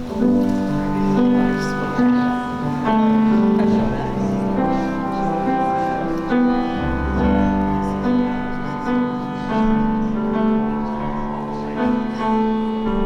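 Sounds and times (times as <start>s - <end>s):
slow keyboard chords: 0.0s - 13.0s.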